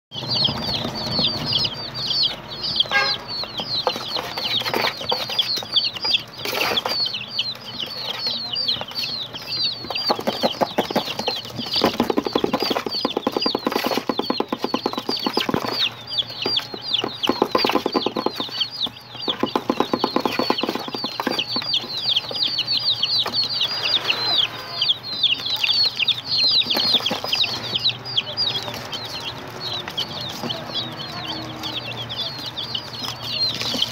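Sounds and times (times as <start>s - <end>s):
baby chicks peeping: 0.1s - 33.9s.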